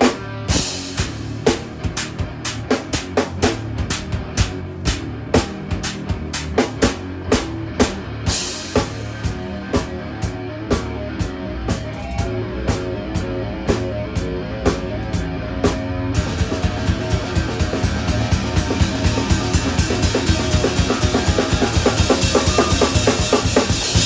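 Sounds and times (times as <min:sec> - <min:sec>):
kick and snare drum beat: 0:00.0 - 0:13.9, 0:14.7 - 0:24.0
electric guitar: 0:00.0 - 0:24.0.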